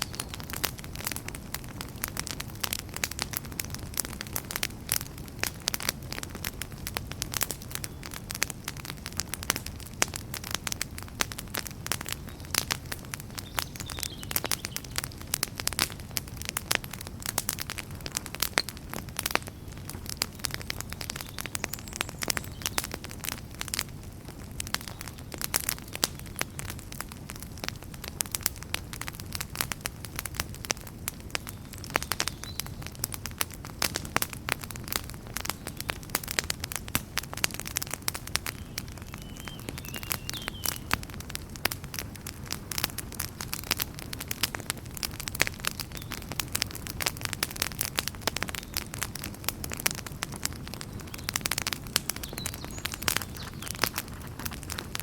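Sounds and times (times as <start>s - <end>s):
campfire crackling and popping: 0.0s - 55.0s
low rumble of flame: 0.0s - 55.0s.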